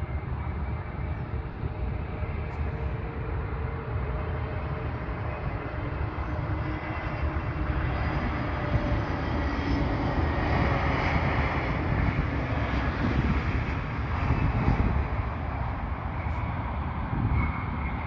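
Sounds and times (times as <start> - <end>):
jet engines at takeoff power: 0.0 - 18.0.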